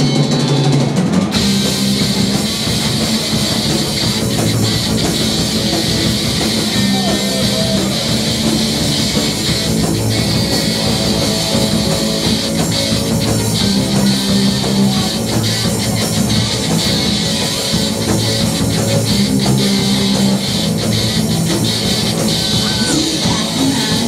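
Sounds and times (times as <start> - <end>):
bass guitar: 0.0 - 24.0
distorted electric guitar: 0.0 - 24.0
drum kit: 0.0 - 24.0.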